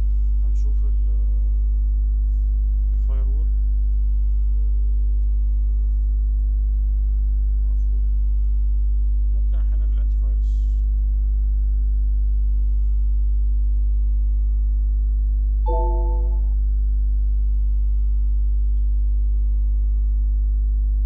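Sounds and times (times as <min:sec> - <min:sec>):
low electrical mains hum: 0:00.0 - 0:21.0.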